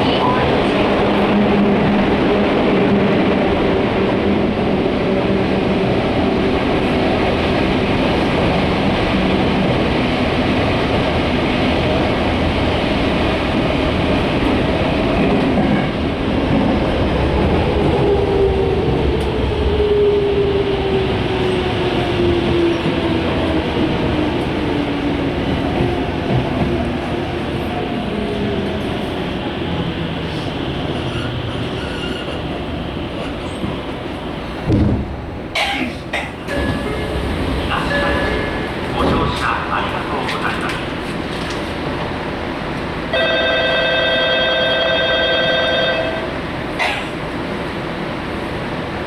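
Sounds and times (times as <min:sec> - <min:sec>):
train ride rumble: 0:00.0 - 0:49.0.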